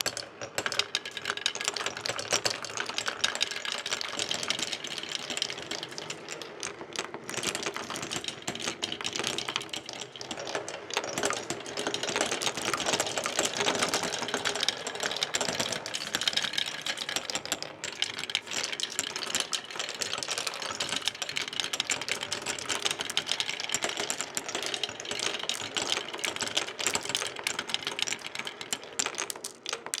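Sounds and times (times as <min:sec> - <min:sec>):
marbles rattling down marble run: 0:00.0 - 0:30.0.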